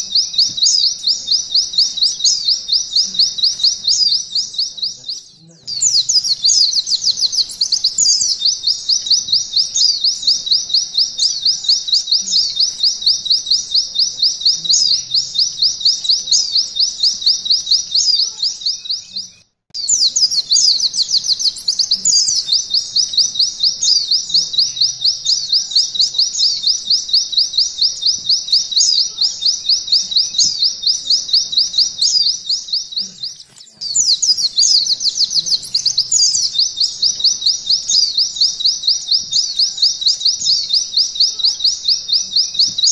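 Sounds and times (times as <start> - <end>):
bird singing fast trill: 0.0 - 42.9.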